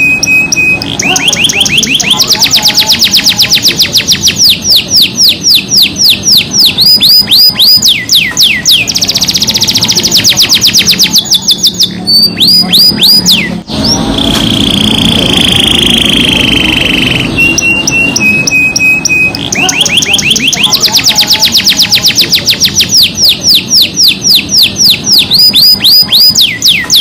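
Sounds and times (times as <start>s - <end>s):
canary singing trills: 0.0s - 27.0s.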